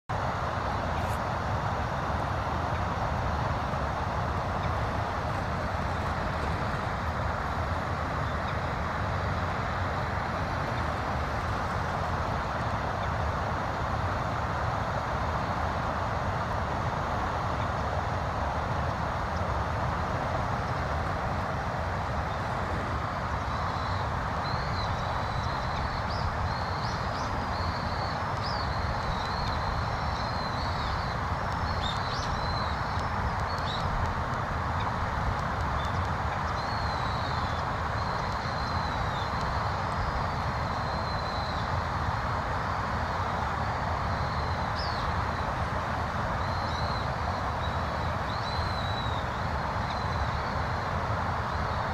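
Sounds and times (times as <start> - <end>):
river water rushing: 0.1 - 51.9.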